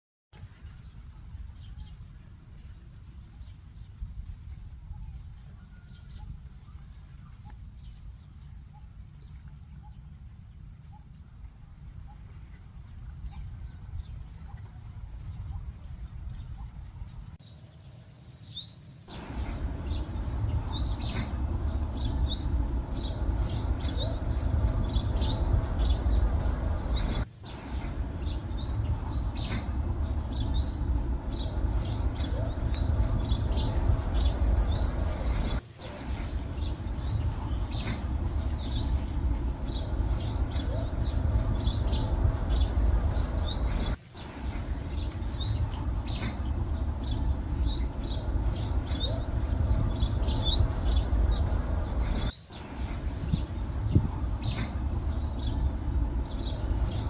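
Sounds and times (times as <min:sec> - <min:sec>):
steady low rumble: 0:00.4 - 0:17.4, 0:19.0 - 0:57.0
small birds chirping: 0:00.7 - 0:57.0.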